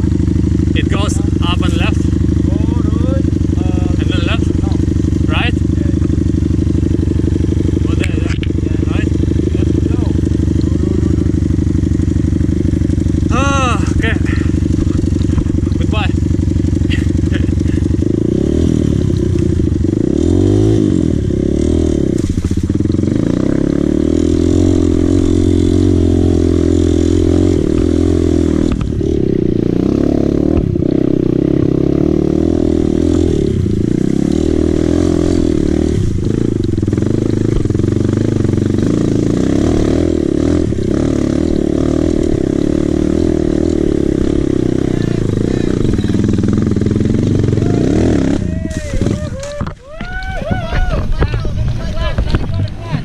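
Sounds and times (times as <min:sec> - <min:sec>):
dirt bike engine revving: 0:00.0 - 0:49.6.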